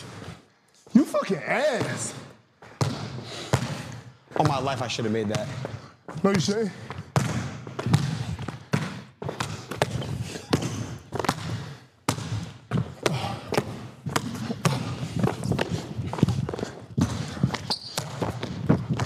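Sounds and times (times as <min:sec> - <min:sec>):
basketball bouncing on indoor floor: 0:01.8 - 0:19.0.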